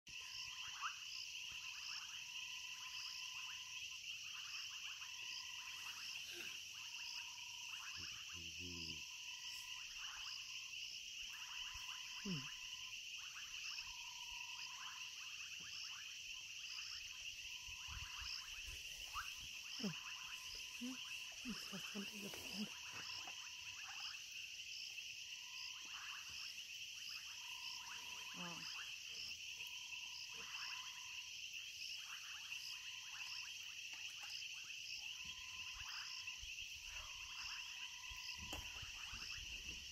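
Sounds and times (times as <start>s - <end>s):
frogs calling: 0.1s - 39.9s
high insect trill: 0.1s - 39.9s.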